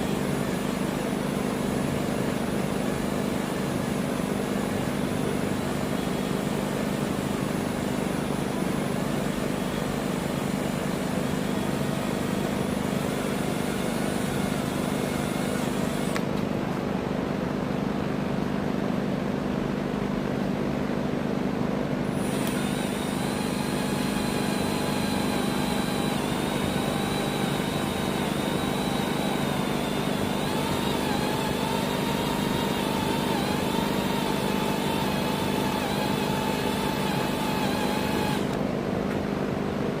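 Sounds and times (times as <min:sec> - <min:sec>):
electric drill boring through steel: 0:00.0 - 0:16.3, 0:22.1 - 0:38.6.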